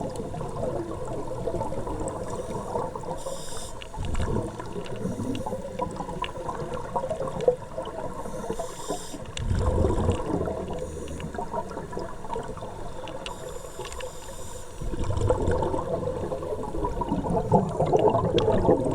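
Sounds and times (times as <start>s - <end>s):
water sloshing and trickling: 0.0s - 18.9s.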